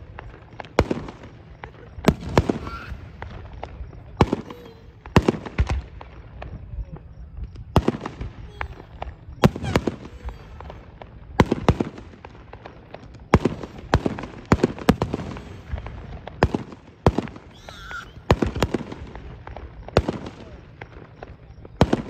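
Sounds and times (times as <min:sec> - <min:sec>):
fireworks bangs and cracks: 0:00.0 - 0:22.0.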